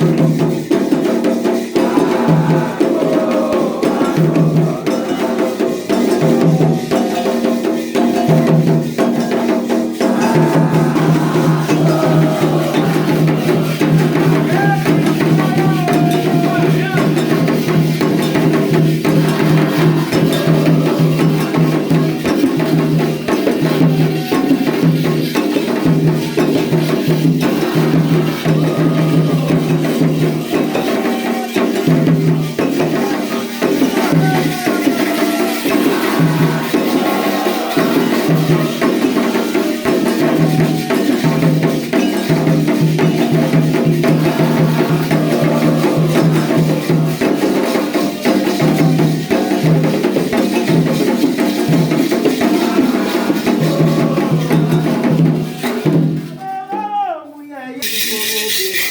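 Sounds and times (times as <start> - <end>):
hand drums and percussion: 0.0 - 57.1, 57.8 - 58.9
chanted singing: 0.0 - 58.9.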